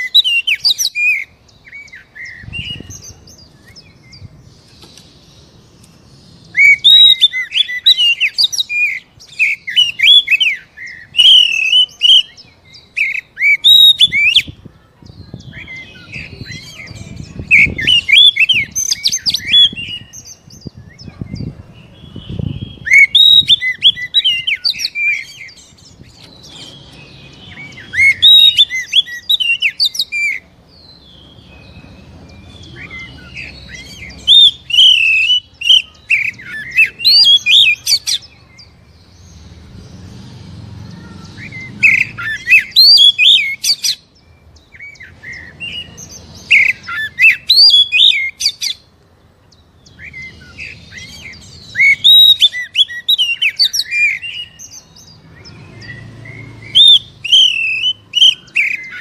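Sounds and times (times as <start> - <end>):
magpie-robin singing whistles and chirps: 0.0 - 5.5, 6.2 - 39.4, 41.0 - 48.9, 49.5 - 59.0.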